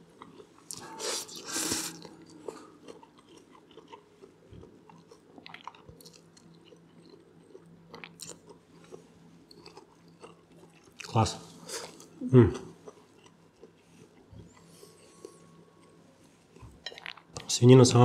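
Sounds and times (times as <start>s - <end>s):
person chewing food: 0.0s - 17.5s.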